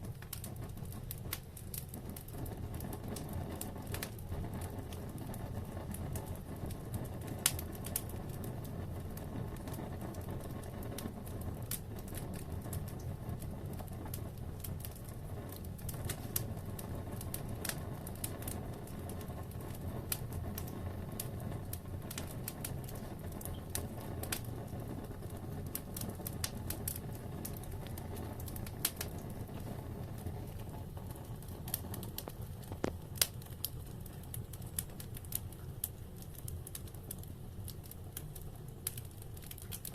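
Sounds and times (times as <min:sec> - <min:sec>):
burning wood crackling and popping: 0:00.0 - 0:39.9
fire flames rumbling: 0:00.0 - 0:39.9.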